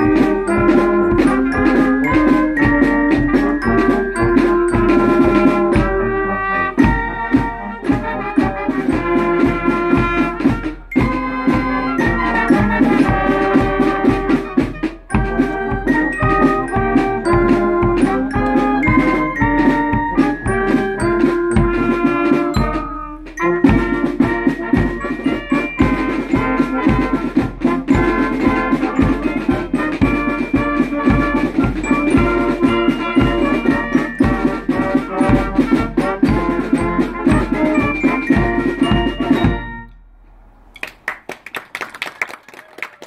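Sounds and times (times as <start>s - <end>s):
steady drum beat: 0.0s - 39.9s
wind band playing a march: 0.0s - 40.0s.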